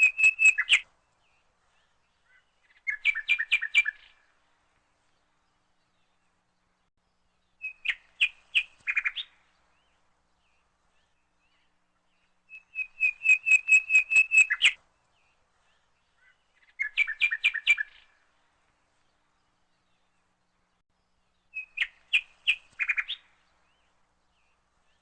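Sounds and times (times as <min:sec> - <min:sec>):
bird chirping: 0:00.0 - 0:04.3, 0:05.0 - 0:18.2, 0:18.9 - 0:25.0.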